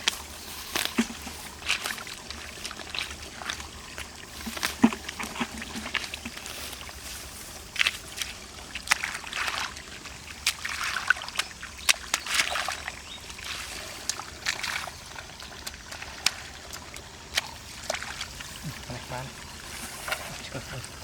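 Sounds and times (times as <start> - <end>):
shallow water splashing: 0.0 - 21.0.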